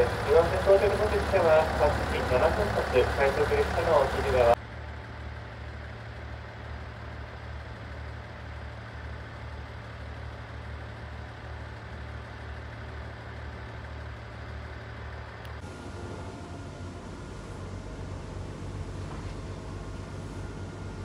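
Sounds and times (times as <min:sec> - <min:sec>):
diesel railcar engine idling: 0:00.0 - 0:21.0.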